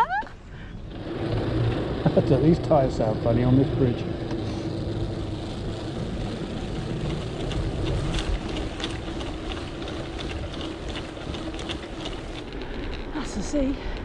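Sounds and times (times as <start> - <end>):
bike tyres humming on bridge deck: 0.0 - 14.0.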